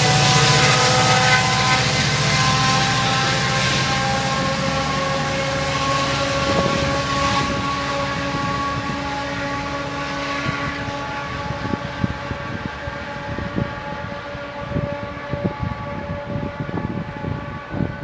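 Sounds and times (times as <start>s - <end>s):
diesel train engine whine: 0.0s - 18.0s.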